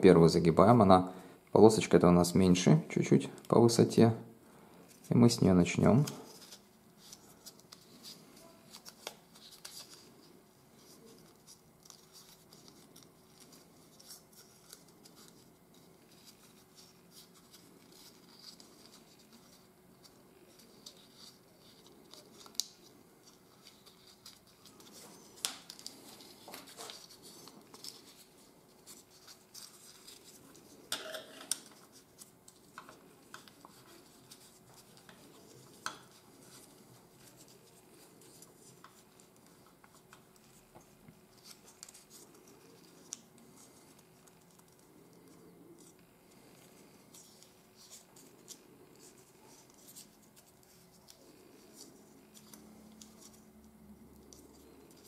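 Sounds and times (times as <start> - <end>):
paper rustling and crinkling: 4.9 - 55.0.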